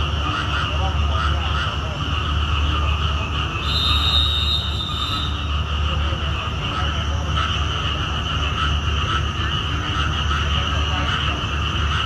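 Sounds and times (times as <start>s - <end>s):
diesel train engine rumbling: 0.0s - 12.0s
frogs croaking: 0.0s - 12.0s.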